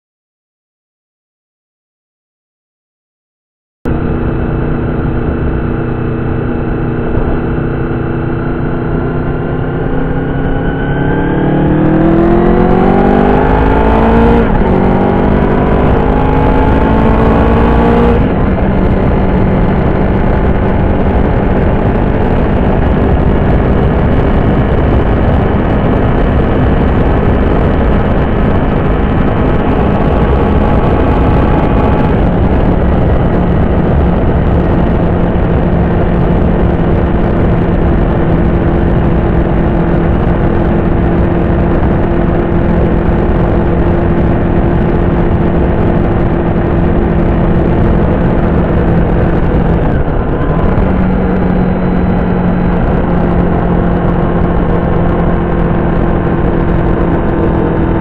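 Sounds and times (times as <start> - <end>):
motorcycle engine revving: 3.9 - 58.0
wind and road noise: 3.9 - 58.0.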